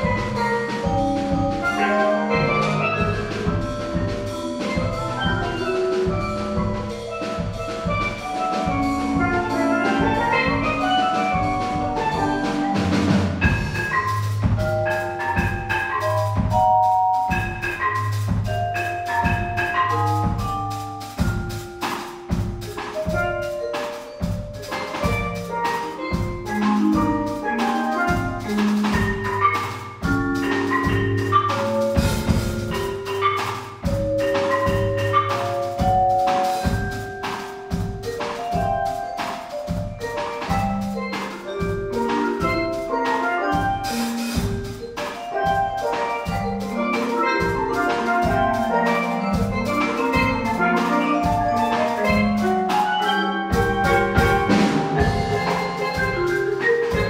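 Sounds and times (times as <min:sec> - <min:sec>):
drum kit beat: 0:00.0 - 0:57.0
pitched mallet notes: 0:00.0 - 0:57.0.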